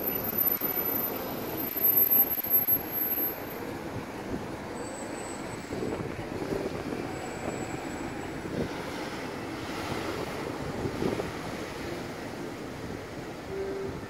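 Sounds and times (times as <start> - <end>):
bus pulling away: 0.0 - 14.0
cars passing: 0.0 - 14.0.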